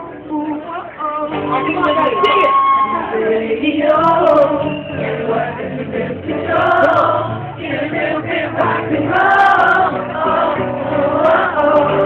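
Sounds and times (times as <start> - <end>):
live pop music with singing: 0.0 - 12.0.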